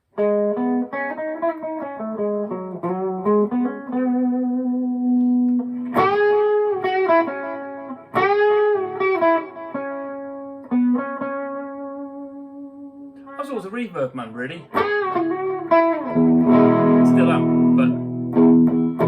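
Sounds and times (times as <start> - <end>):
overdriven electric guitar: 0.0 - 13.4, 14.6 - 19.0
bent guitar notes: 0.2 - 19.0.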